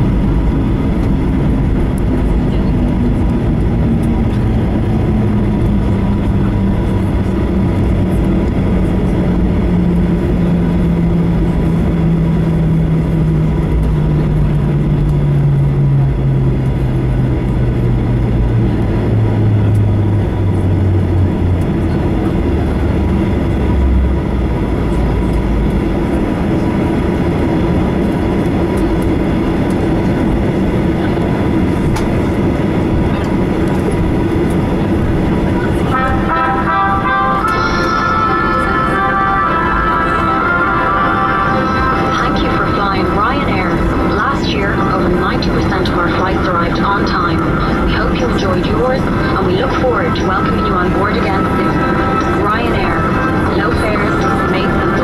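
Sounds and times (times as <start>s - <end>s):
jet engines and wheels rumbling: 0.0s - 55.0s.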